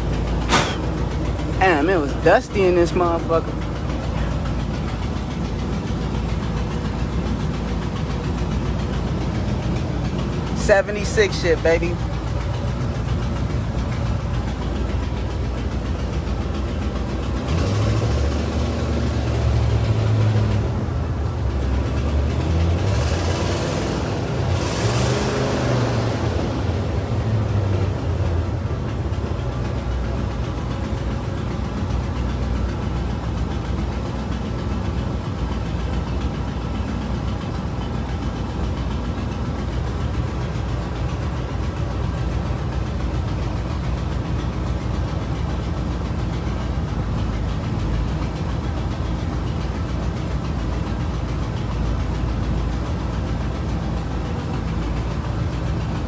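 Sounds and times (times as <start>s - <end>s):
raspy car engine idling: 0.0s - 56.0s.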